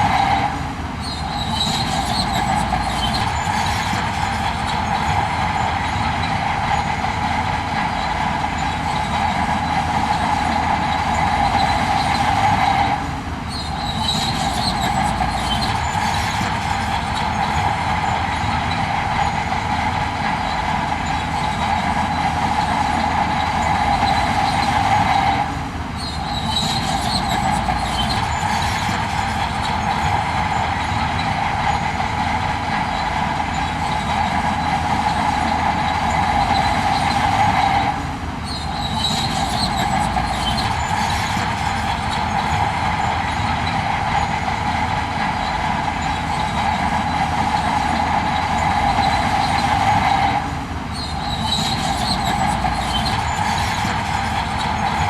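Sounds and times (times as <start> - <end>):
heavy earthmoving machinery running: 0.0 - 55.0.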